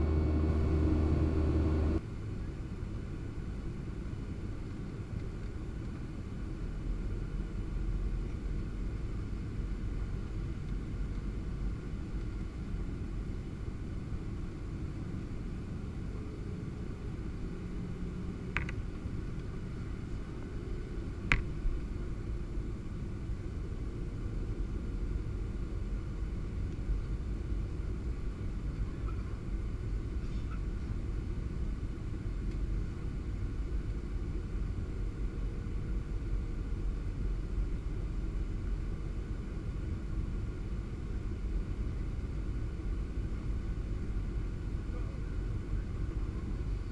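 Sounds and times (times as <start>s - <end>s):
airplane cabin rumble: 0.0s - 46.9s.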